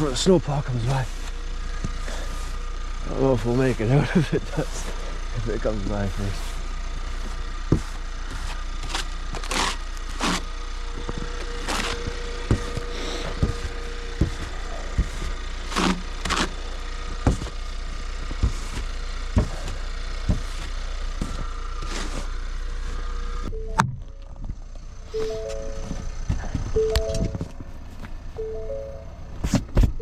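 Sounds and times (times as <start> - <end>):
pickup truck engine running: 0.0 - 30.0.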